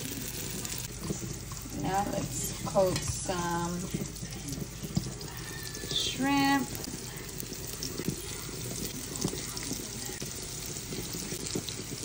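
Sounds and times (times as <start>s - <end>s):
food frying in oil: 0.0s - 12.0s
oil popping: 0.0s - 12.0s.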